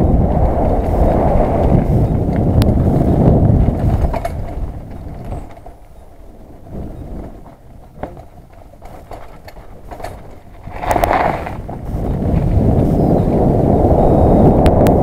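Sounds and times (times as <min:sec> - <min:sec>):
bike knocks and rattles: 0:00.0 - 0:13.8
tyre rumble on gravel trail: 0:00.0 - 0:15.0
wind buffeting microphone: 0:00.0 - 0:15.0.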